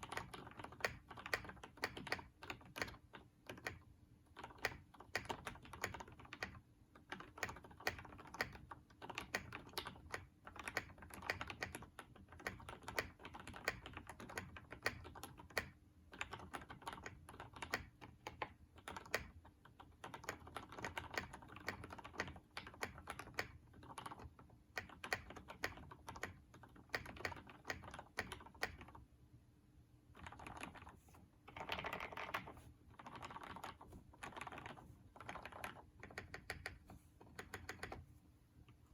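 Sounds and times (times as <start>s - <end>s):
mechanical keyboard typing: 0.0s - 29.0s, 30.1s - 38.0s.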